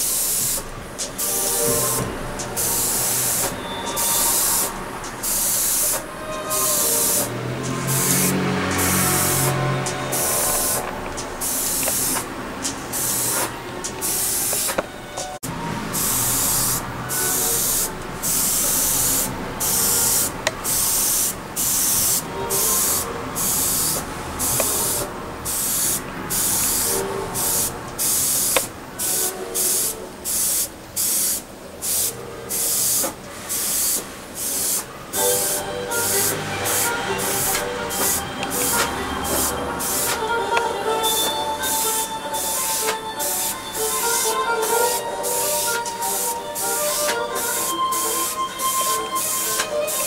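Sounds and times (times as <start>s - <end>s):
airbrush spraying hiss: 0.0s - 50.0s.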